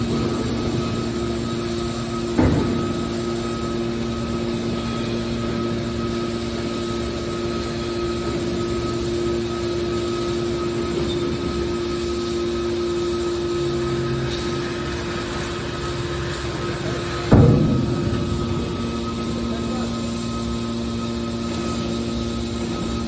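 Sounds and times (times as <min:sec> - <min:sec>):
hydraulic power unit humming: 0:00.0 - 0:23.0.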